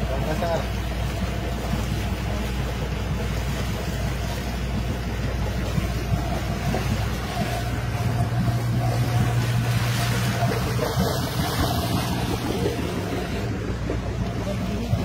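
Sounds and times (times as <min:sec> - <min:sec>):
boat engine humming: 0:00.0 - 0:15.0
water wash: 0:00.0 - 0:15.0.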